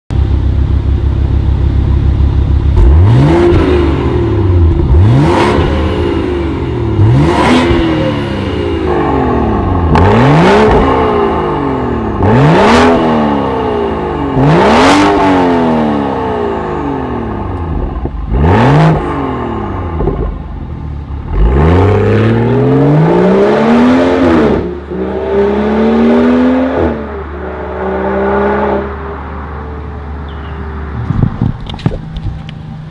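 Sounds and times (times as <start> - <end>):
loud car engine revving: 2.4 - 31.8
car accelerating away: 2.7 - 32.1.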